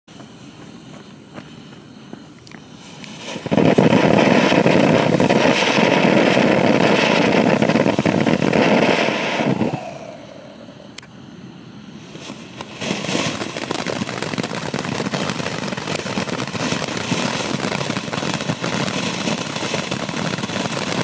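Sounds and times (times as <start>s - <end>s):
firework fountain hissing: 0.1s - 11.0s, 11.9s - 21.0s.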